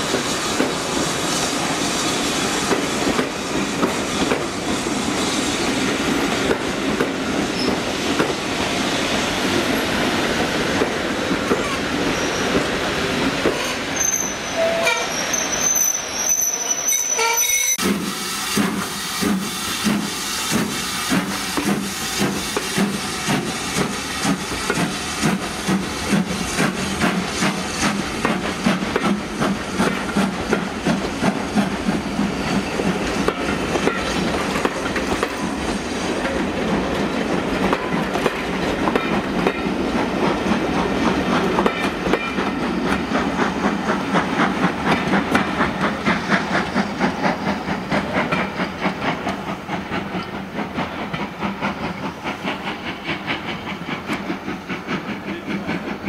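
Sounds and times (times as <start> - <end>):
train wheels clicking over rail joints: 0.0 - 15.6, 17.8 - 56.0.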